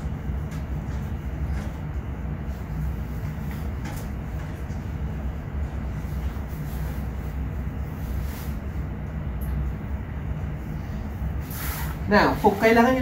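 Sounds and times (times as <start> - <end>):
cooling fans humming: 0.0 - 13.0.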